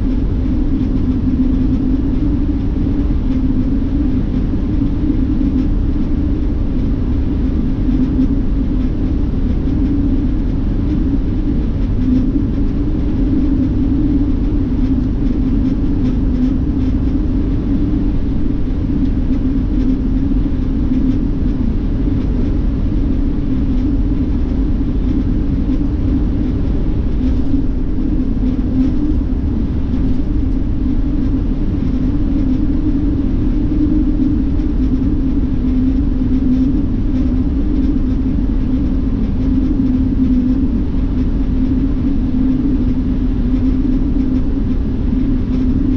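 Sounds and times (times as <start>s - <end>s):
bus engine and tyre rumble: 0.0s - 45.9s.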